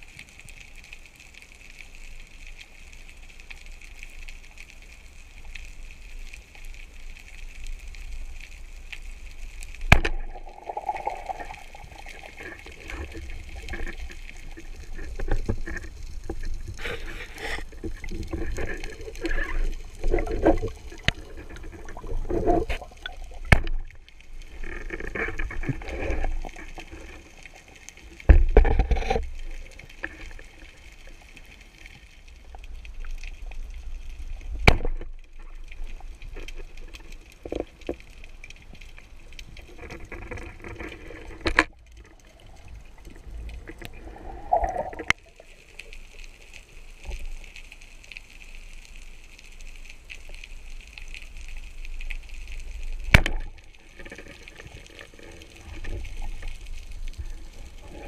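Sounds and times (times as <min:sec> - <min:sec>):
water sloshing and gurgling: 0:05.4 - 0:58.0.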